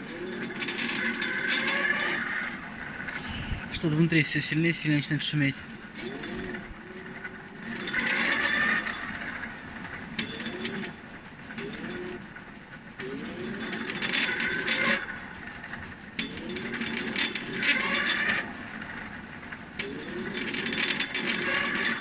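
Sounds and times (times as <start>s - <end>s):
electric motor whining: 0.0s - 22.0s
metallic grinding and rattling: 0.0s - 22.0s.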